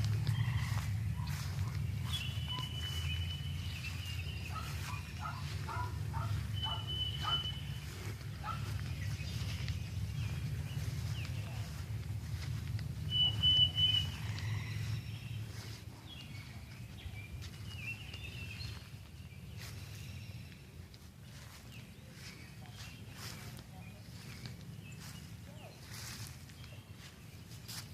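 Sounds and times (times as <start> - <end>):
birds calling: 0.0 - 27.9
steady low rumble: 0.0 - 27.9.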